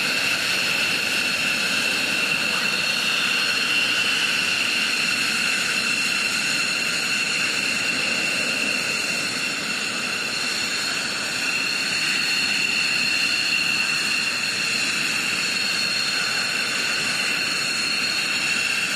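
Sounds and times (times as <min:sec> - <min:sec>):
jet engines whining: 0:00.0 - 0:18.9.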